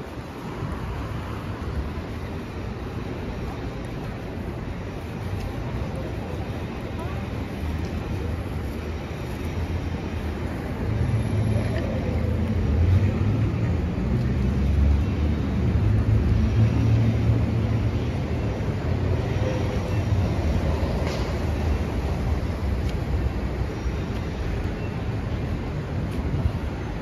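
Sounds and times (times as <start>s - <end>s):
vehicles passing on wet road: 0.0s - 27.0s.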